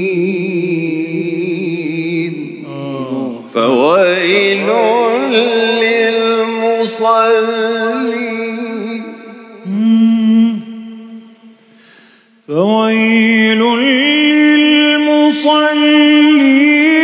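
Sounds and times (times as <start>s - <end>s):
man reciting melodically: 0.0s - 11.6s, 12.4s - 17.0s.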